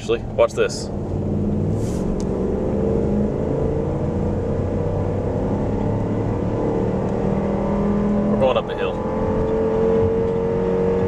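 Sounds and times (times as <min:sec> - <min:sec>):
car engine accelerating under load: 0:00.2 - 0:11.0.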